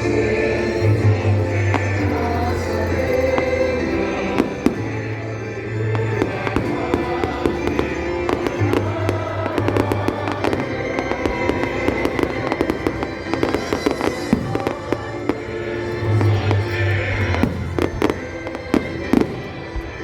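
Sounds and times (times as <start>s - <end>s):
fireworks bursting and crackling: 0.7s - 20.0s.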